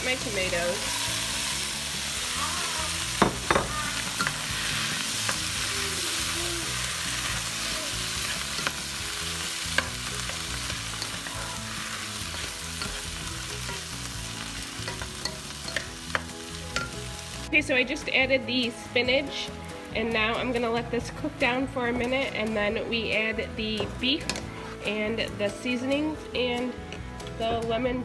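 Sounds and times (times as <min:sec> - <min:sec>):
vegetables sizzling in oil: 0:00.0 - 0:26.8.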